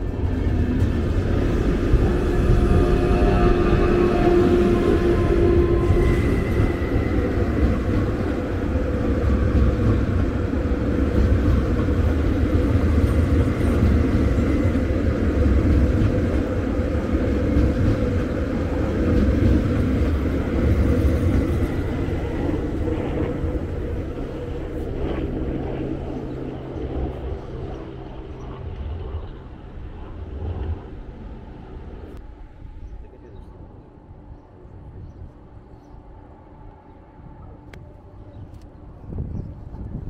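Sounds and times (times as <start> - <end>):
train wheels rumbling on rails: 0.0 - 33.6.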